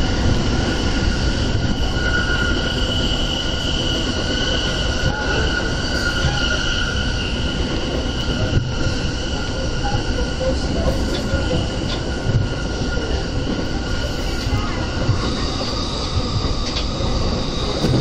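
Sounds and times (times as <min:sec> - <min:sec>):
rumble of train wheels on rail: 0:00.0 - 0:18.0.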